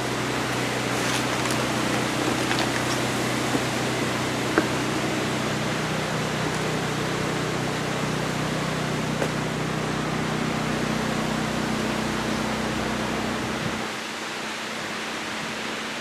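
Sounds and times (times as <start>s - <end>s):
portable generator running: 0.0s - 13.9s.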